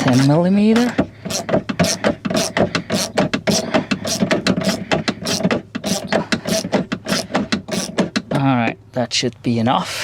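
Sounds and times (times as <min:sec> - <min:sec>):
hand ratchet clicking rapidly: 0:00.0 - 0:08.2.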